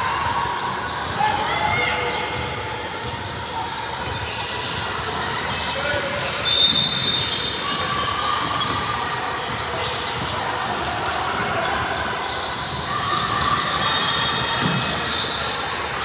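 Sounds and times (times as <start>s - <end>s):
voices of players and spectators: 0.0s - 16.0s
basketball bouncing on court: 0.2s - 7.8s, 8.4s - 15.4s.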